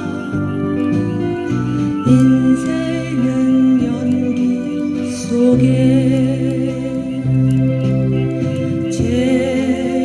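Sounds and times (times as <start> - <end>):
held instrumental notes: 0.0 - 10.0
person singing: 0.0 - 10.0.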